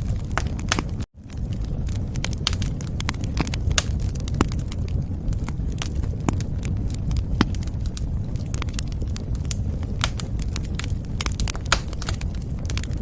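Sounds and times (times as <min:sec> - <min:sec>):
fire crackles and pops: 0:00.0 - 0:13.0
wood fire rumbling: 0:00.0 - 0:13.0.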